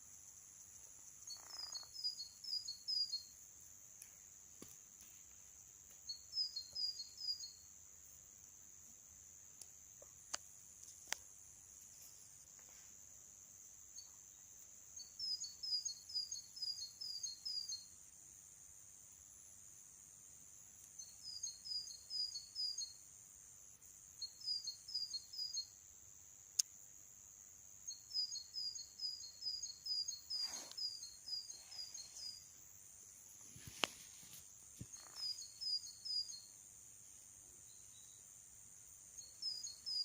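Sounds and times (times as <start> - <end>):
high-pitched hiss: 0.0 - 40.0.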